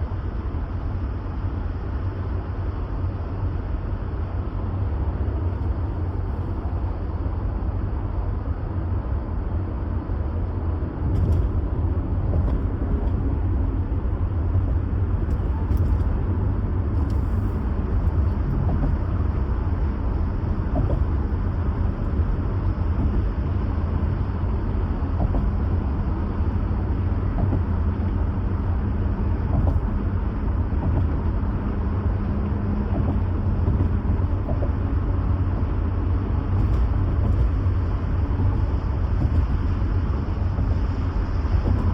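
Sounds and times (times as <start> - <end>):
vehicle road and engine rumble: 0.0 - 41.9.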